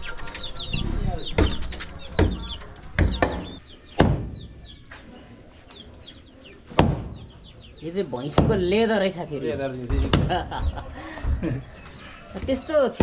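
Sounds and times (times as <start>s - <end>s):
young chickens peeping: 0.0s - 13.0s.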